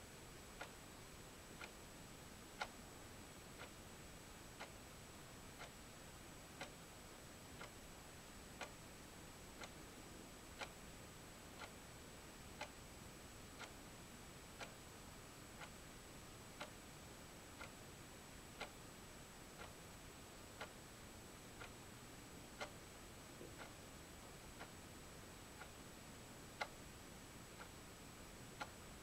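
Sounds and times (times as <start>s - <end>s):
faint steady ticking: 0.0s - 29.0s.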